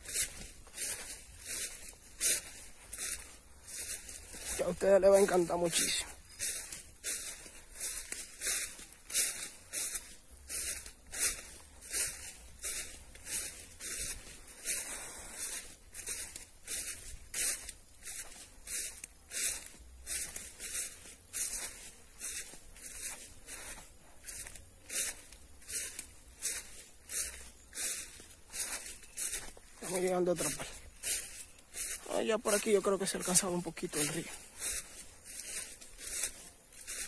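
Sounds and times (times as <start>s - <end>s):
footsteps swishing through grass: 0.0s - 37.0s.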